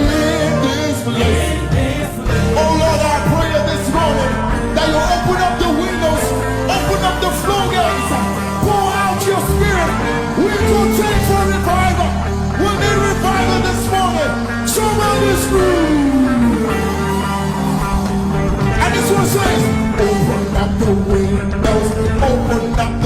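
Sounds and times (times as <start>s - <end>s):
held bass notes: 0.0s - 23.0s.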